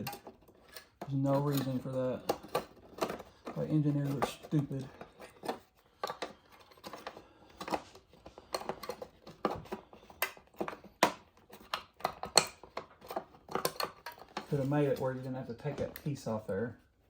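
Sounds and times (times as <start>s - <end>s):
plastic parts clicking and tapping: 0.0s - 16.2s.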